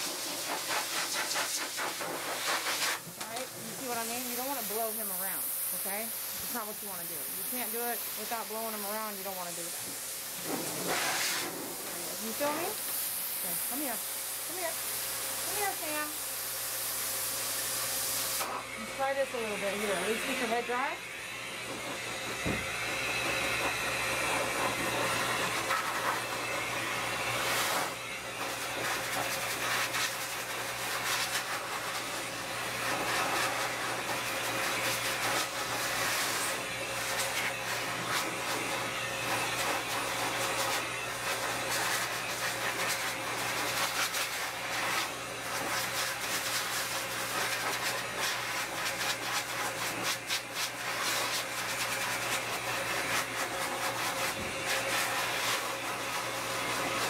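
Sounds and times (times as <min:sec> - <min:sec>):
grooming dryer air rushing: 0:00.0 - 0:57.0.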